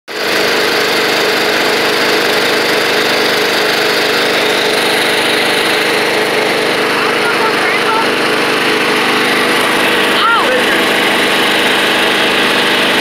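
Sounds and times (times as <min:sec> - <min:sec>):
lawn mower engine running: 0:00.1 - 0:13.0.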